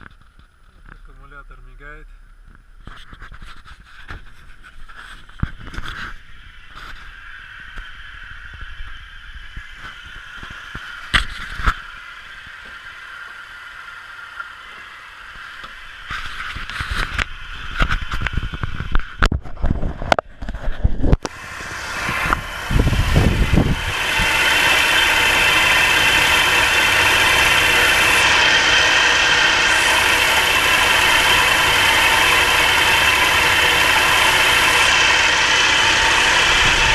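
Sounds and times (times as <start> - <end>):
car engine cranking and idling: 0.0 - 19.3, 21.2 - 36.9.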